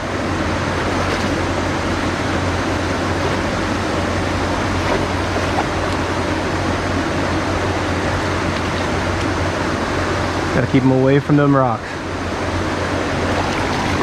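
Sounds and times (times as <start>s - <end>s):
creek water rushing: 0.0s - 10.6s, 12.0s - 14.0s.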